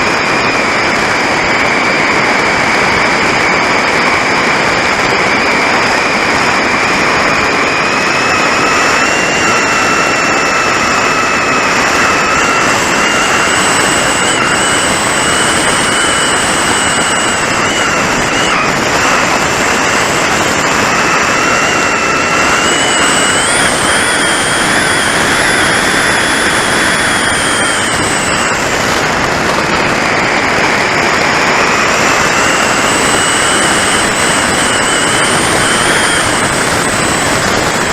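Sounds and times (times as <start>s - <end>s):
thin whine: 0.0s - 37.9s.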